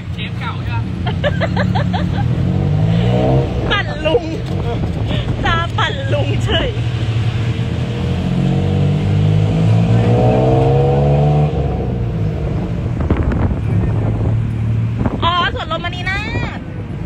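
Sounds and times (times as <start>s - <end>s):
three-wheeler engine revving: 0.0s - 16.4s.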